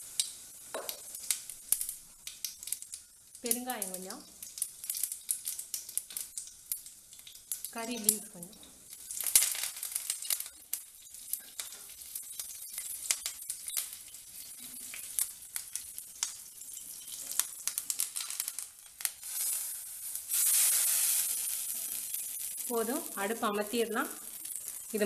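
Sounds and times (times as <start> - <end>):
loud hissing sizzle: 0.0 - 25.0
seeds crackling in hot oil: 0.0 - 25.0.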